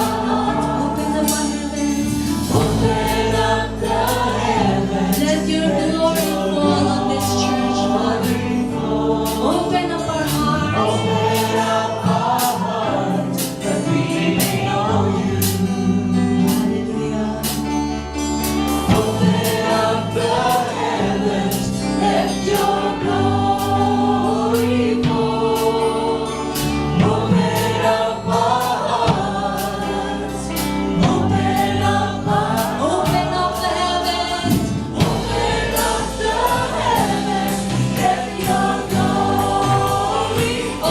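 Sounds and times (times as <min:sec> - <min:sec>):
band with bass and drums: 0:00.0 - 0:40.9
choir singing: 0:00.0 - 0:40.9.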